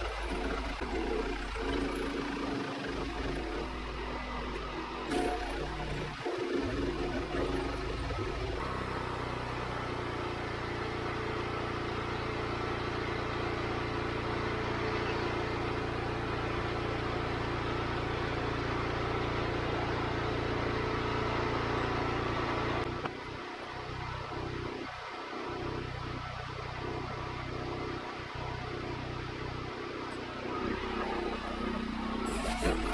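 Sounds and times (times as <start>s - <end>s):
sawmill engine droning: 0.0s - 32.9s.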